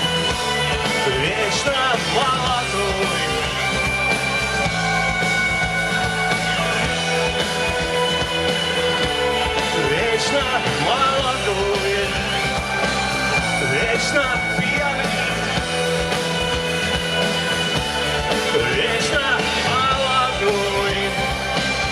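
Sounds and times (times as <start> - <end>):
rock band playing: 0.0 - 21.9.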